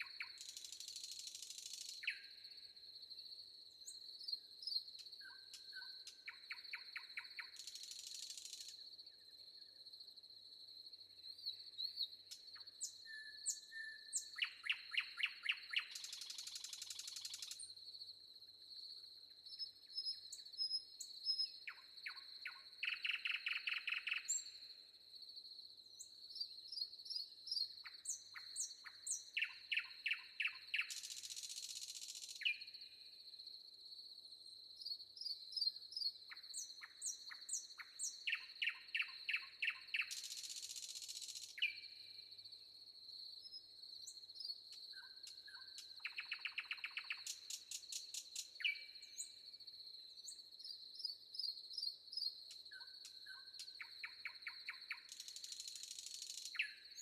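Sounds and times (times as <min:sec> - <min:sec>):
songbirds singing: 0:00.0 - 0:02.4, 0:03.7 - 0:09.8, 0:11.2 - 0:17.7, 0:19.0 - 0:24.8, 0:25.9 - 0:32.9, 0:34.8 - 0:42.1, 0:43.4 - 0:49.6, 0:50.2 - 0:57.0.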